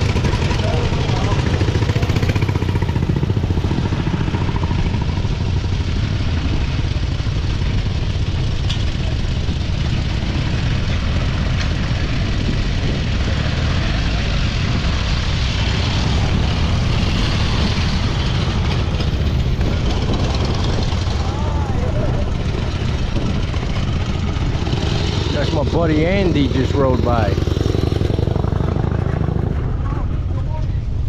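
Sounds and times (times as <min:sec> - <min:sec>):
motorcycle engine running: 0:00.0 - 0:31.0
wind noise: 0:00.0 - 0:31.0.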